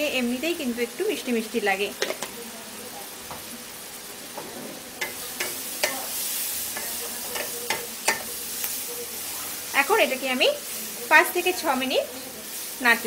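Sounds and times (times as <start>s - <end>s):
food sizzling: 0.0s - 13.0s.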